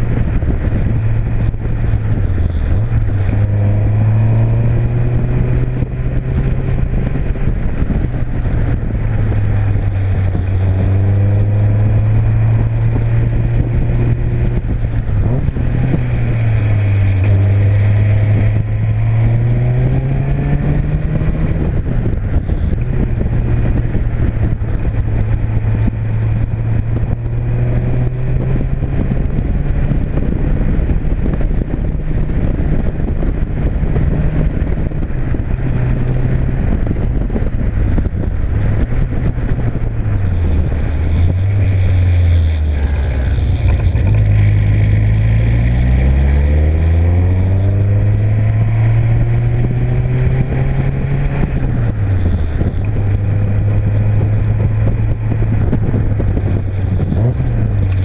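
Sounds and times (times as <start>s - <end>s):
road and wind rush: 0.0s - 58.0s
sports car engine: 0.0s - 58.0s.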